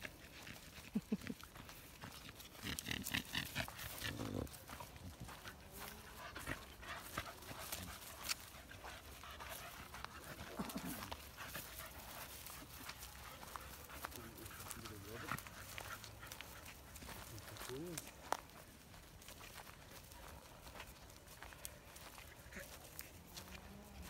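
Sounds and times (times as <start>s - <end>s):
footsteps through grass and leaves: 0.0s - 24.0s.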